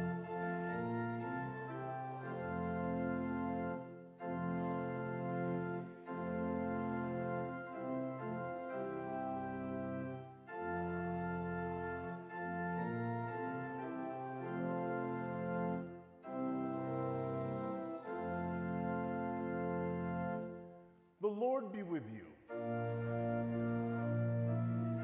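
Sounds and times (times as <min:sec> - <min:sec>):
church organ chords: 0:00.0 - 0:25.0.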